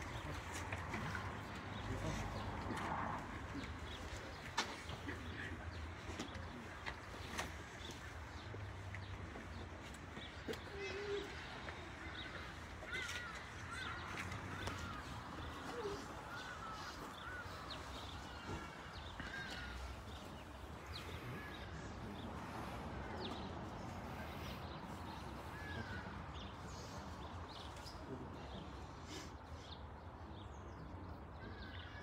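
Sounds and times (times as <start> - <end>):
birds calling: 0.0 - 32.0.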